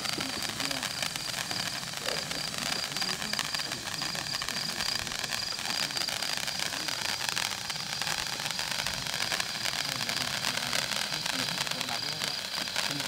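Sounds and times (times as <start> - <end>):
firework fountain hissing and crackling: 0.0 - 13.0.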